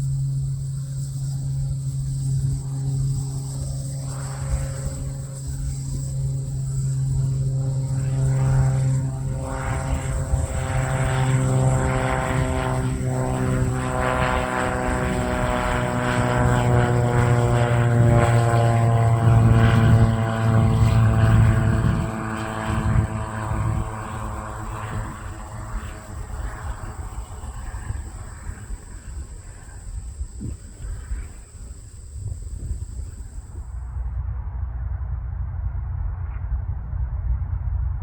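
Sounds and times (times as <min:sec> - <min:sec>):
propeller plane engine droning: 0:00.0 - 0:38.0.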